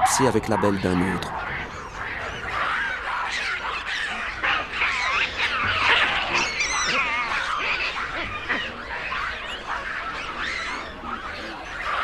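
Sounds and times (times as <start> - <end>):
baboons screaming: 0.0 - 12.0.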